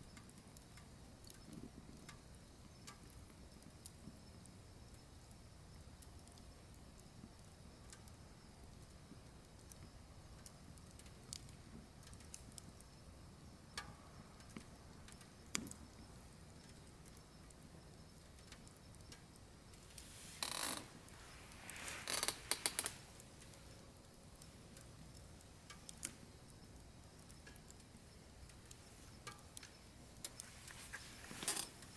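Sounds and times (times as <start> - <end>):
firewood crackling in a stove: 0.0 - 31.9.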